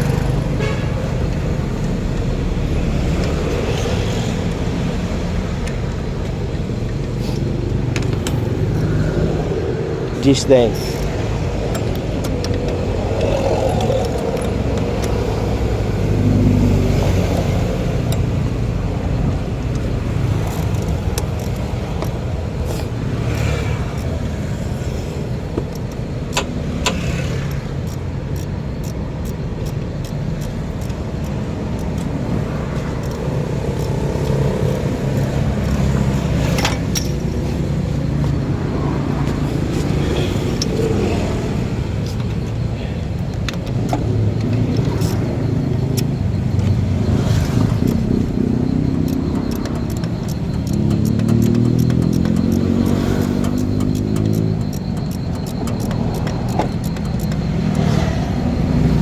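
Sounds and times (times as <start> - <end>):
car engine idling: 0.0 - 59.0
sharp clicks and taps: 1.2 - 59.0.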